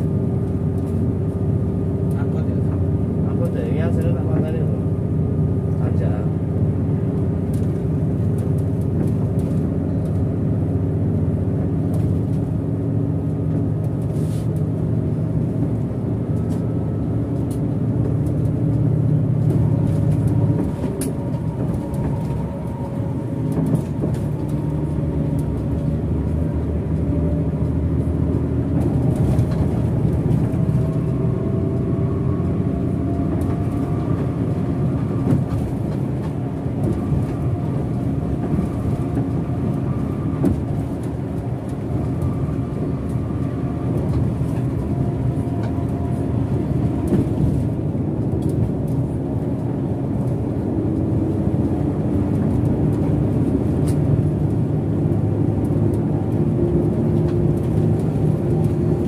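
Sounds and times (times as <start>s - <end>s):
diesel bus engine droning: 0.0s - 59.0s
road noise: 0.0s - 59.0s.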